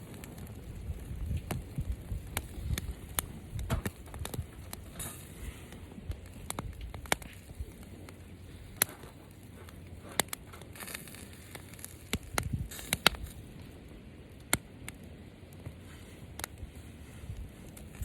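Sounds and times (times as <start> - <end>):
fire pops: 0.0 - 18.0
wood fire crackling: 0.0 - 18.0.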